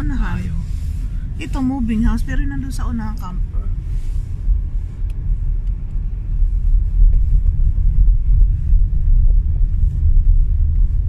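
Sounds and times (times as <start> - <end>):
car tyres and engine rumbling: 0.0 - 11.0.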